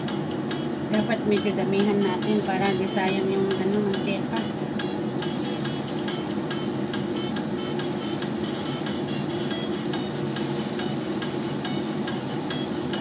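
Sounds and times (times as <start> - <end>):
oil sizzling with crackling pops: 2.4 - 13.0.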